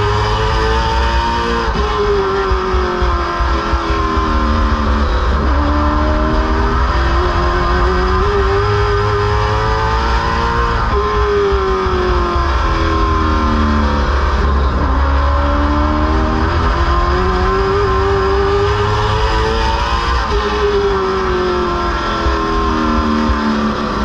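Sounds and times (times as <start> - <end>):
race car engine at speed: 0.0 - 24.0.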